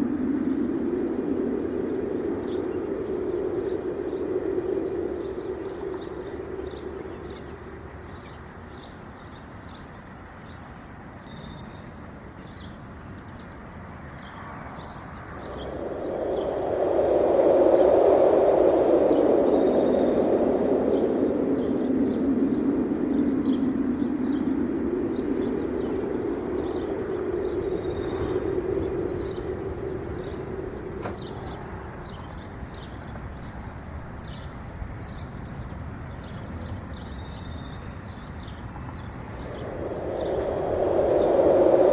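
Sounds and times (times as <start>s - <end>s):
wind rushing: 0.0s - 9.2s, 13.9s - 41.9s
small birds chirping: 0.1s - 41.9s.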